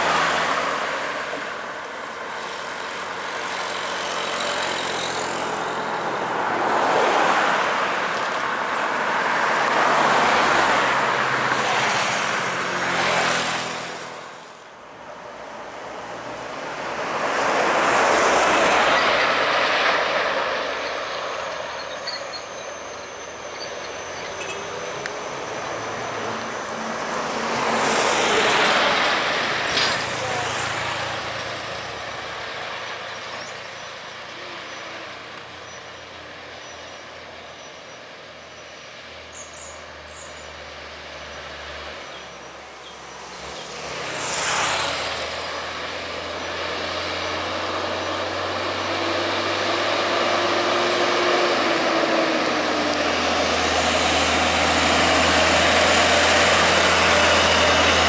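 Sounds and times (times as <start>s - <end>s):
diesel truck engines: 0.0s - 58.0s.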